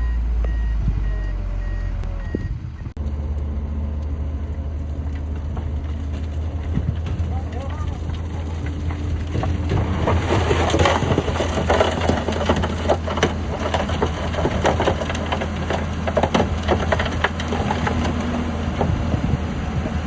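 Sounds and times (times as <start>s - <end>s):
heavy diesel machine running: 0.0s - 20.0s
stone and soil crunching: 3.0s - 19.4s.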